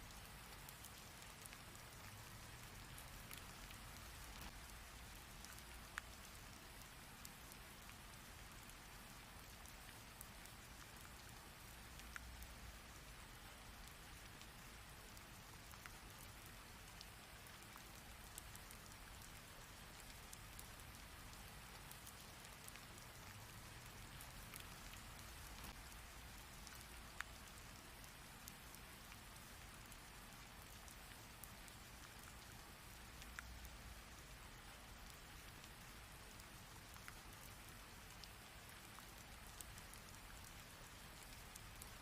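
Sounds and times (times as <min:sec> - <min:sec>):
rain drop impacts: 0:00.2 - 0:06.8, 0:13.4 - 0:42.0.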